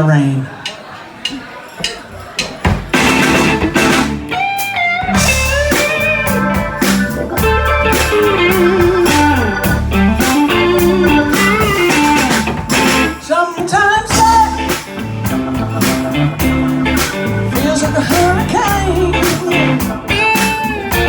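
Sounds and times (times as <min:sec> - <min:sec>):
drum kit: 0:00.7 - 0:21.0
bass guitar: 0:02.9 - 0:21.0
electric guitar lead lines: 0:02.9 - 0:21.0.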